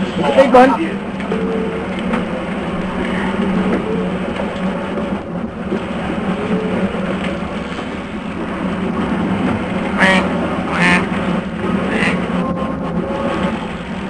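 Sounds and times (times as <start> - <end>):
boat engine drone: 0.0 - 14.0
wind and water rushing: 0.0 - 14.0.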